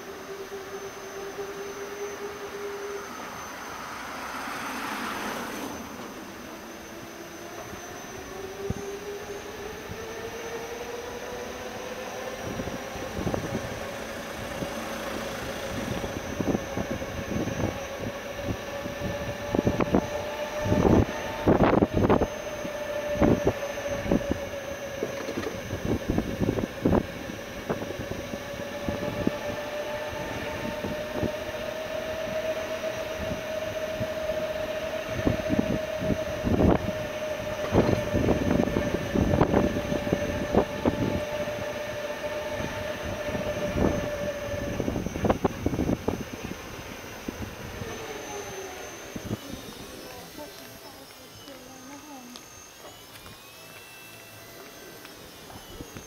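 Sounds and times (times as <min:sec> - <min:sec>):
electric drive whine: 0:00.0 - 0:56.0.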